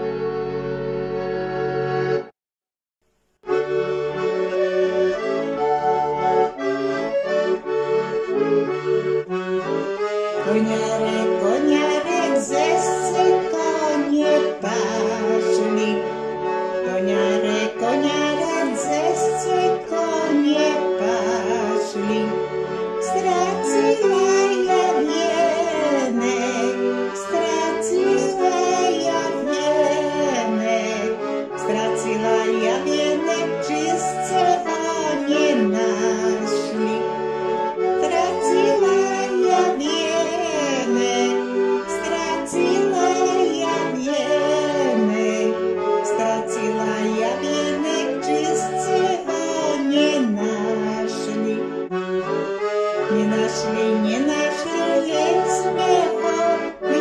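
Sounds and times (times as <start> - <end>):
accordion folk song: 0.0 - 2.4, 3.1 - 57.0.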